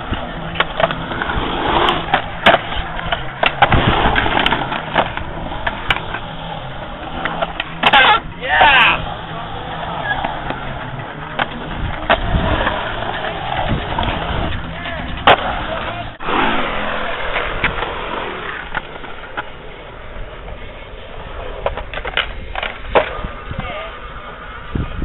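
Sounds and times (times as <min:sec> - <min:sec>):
skateboard clacking on ground: 0:00.0 - 0:25.0
skateboard wheels rolling on concrete: 0:00.0 - 0:25.0
voices chattering: 0:00.0 - 0:25.0.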